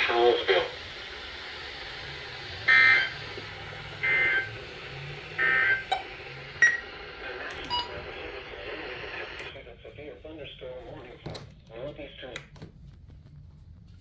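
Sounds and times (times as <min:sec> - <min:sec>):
radio hiss: 0:00.0 - 0:12.4.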